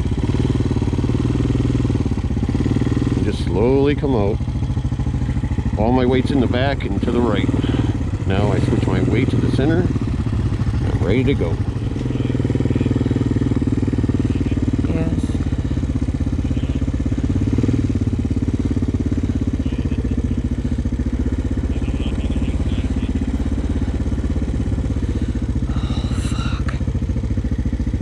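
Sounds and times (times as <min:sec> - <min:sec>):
quad engine running at low revs: 0:00.0 - 0:28.0.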